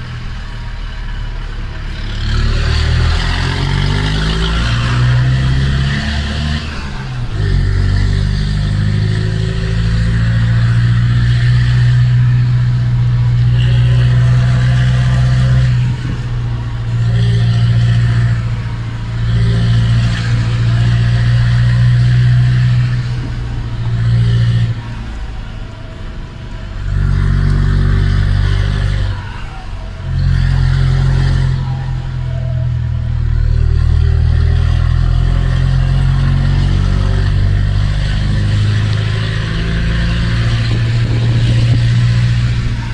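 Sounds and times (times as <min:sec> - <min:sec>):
truck diesel engine under load: 0:00.0 - 0:42.9.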